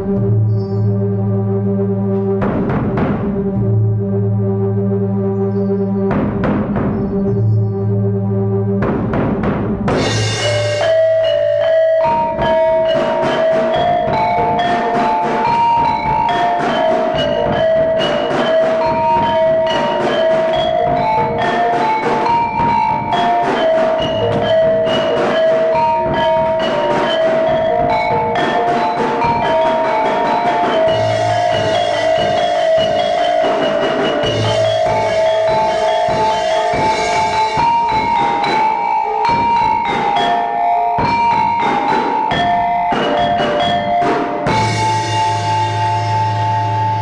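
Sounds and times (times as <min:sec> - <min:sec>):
fast mallet percussion melody: 0:08.8 - 0:47.0.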